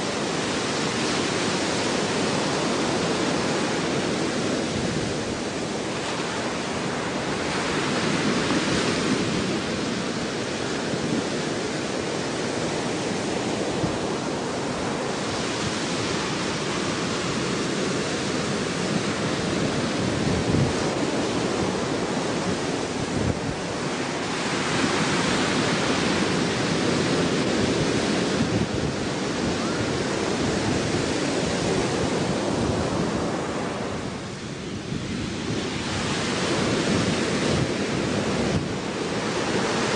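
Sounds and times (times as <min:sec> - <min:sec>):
surf: 0:00.0 - 0:39.9
wind: 0:00.0 - 0:39.9.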